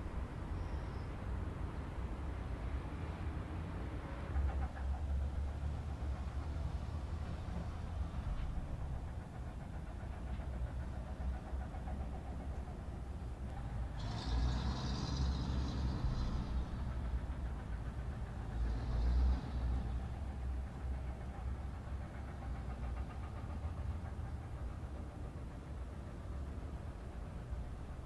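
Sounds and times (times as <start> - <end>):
vehicle engines rumbling: 0.0 - 28.0.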